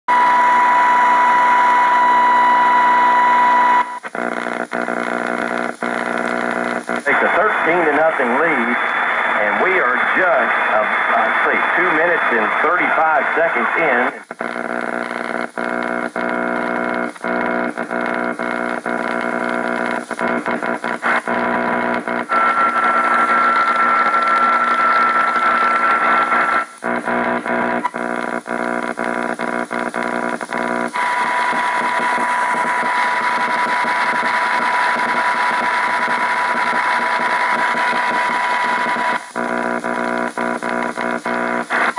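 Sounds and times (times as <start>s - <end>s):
low-pitched buzz: 0.1s - 9.4s, 12.6s - 41.9s
high whine: 0.1s - 41.9s
radio static: 0.1s - 41.9s.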